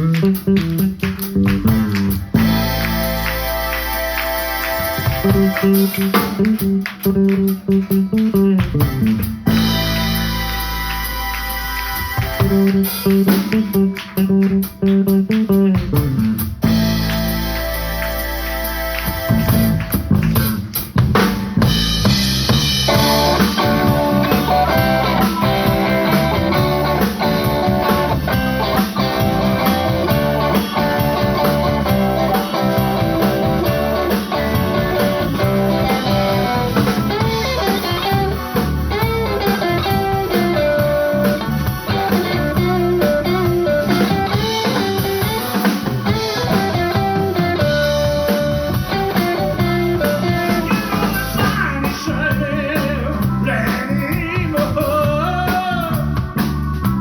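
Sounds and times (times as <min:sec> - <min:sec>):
bass: 0:00.0 - 0:57.0
drum kit beat: 0:00.0 - 0:57.0
electric guitar lines: 0:00.0 - 0:57.0.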